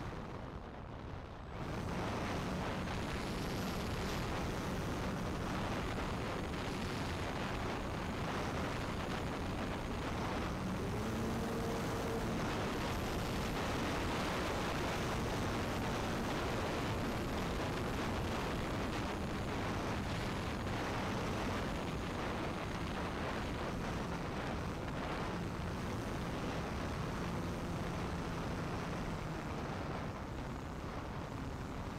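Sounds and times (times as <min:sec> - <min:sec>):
wind rushing over camera: 0:00.0 - 0:31.9
electric motor and propeller hum: 0:01.6 - 0:31.9.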